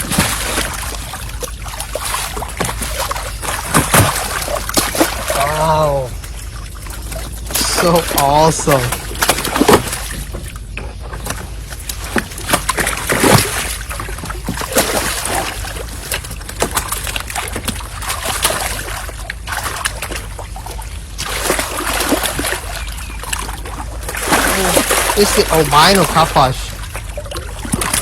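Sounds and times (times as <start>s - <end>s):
low hum: 0.0s - 28.0s
water splashing and sloshing: 0.0s - 28.0s.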